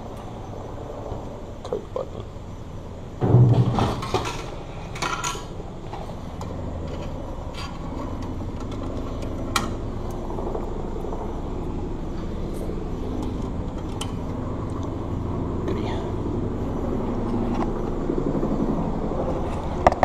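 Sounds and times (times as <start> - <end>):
vending machine motor hum: 2.3 - 20.0.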